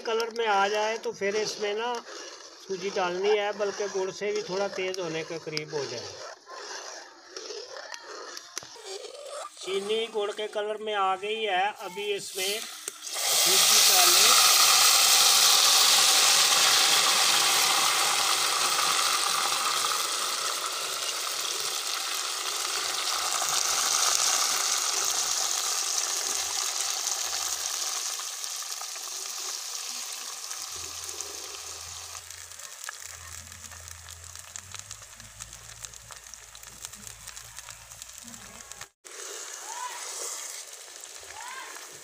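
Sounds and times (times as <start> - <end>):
semolina sizzling in hot fat: 0.0 - 6.8, 7.8 - 42.0.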